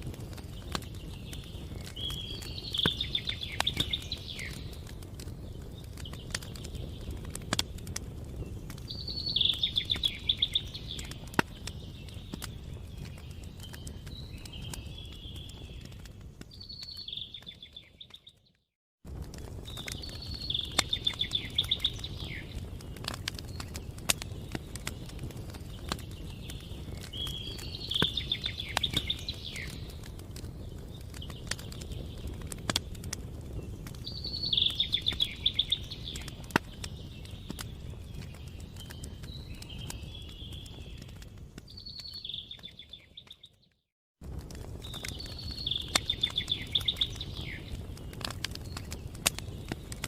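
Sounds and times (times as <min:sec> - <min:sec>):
campfire crackling: 0:00.0 - 0:43.6, 0:44.2 - 0:50.0.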